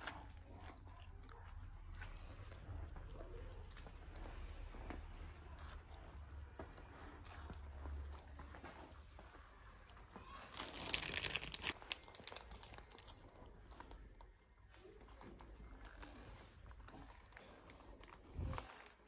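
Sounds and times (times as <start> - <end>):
crinkling and rustling: 1.9 - 19.0.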